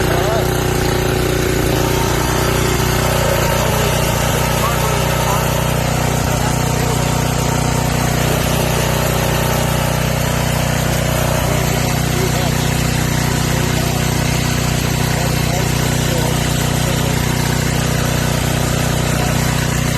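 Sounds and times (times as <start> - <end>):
generator engine running: 0.0 - 19.9.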